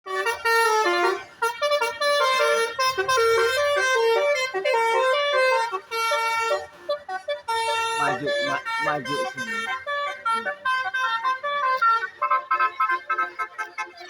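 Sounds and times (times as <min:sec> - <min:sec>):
multi-trumpet air horn tune: 0:00.1 - 0:14.0.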